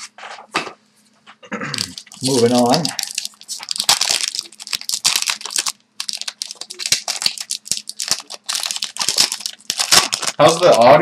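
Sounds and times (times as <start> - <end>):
foil wrapper crinkling: 1.7 - 11.0.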